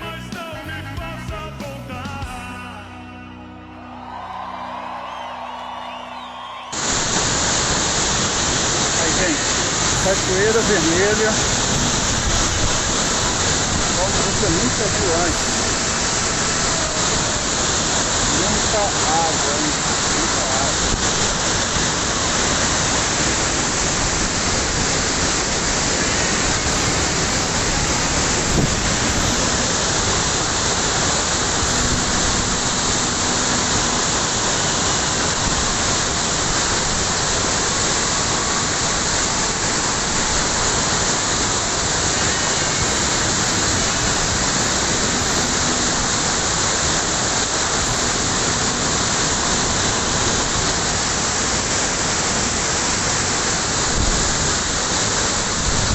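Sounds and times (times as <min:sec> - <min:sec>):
waterfall rushing: 0:03.8 - 0:55.9.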